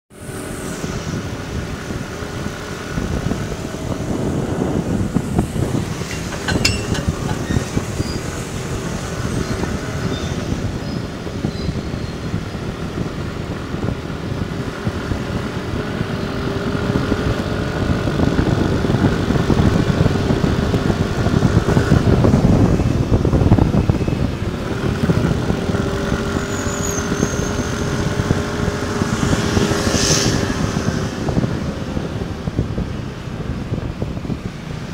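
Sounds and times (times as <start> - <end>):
wind buffeting microphone: 0.2 - 34.9.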